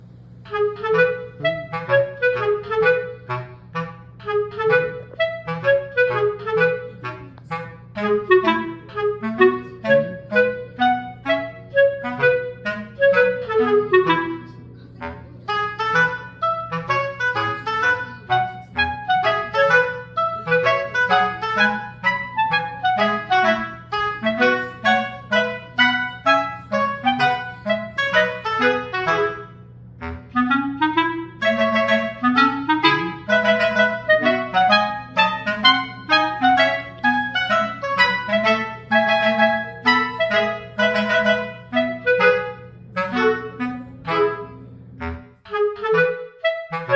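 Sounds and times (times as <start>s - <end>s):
steady low hum: 0.0s - 46.9s
melody of quick notes: 0.5s - 46.9s.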